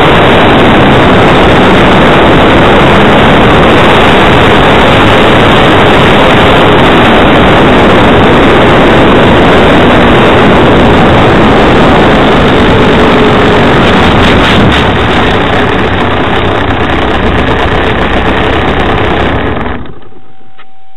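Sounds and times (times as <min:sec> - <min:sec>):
distorted wind rushing on microphone: 0:00.0 - 0:20.1.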